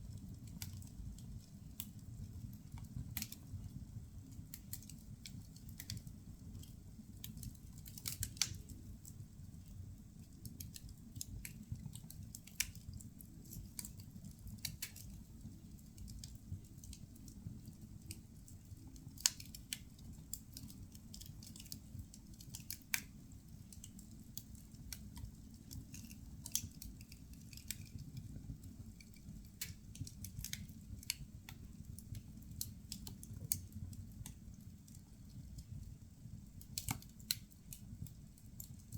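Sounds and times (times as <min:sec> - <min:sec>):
firewood crackling and popping: 0:00.0 - 0:38.9
low fire rumble: 0:00.0 - 0:38.9.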